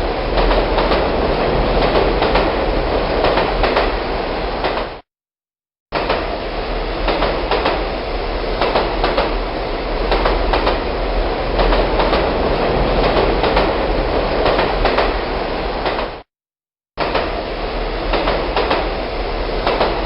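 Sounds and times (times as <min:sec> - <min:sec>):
train rolling on rails: 0:00.0 - 0:05.0, 0:06.0 - 0:16.3, 0:17.0 - 0:20.0.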